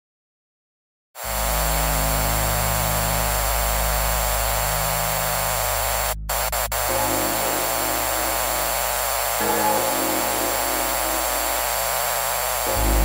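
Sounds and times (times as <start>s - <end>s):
loud static hiss: 1.2s - 13.0s
low electrical hum: 1.2s - 13.0s.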